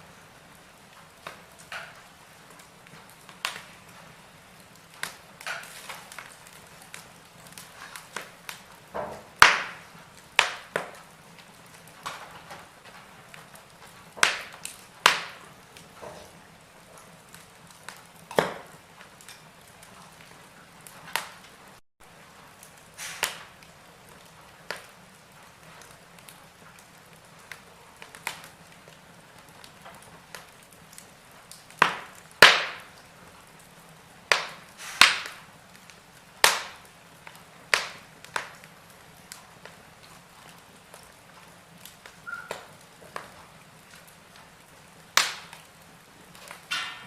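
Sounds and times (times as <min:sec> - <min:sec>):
faint steady hiss: 0:00.0 - 0:47.0
wood fire crackling: 0:00.0 - 0:47.0
sharp pops of fire: 0:00.1 - 0:47.0.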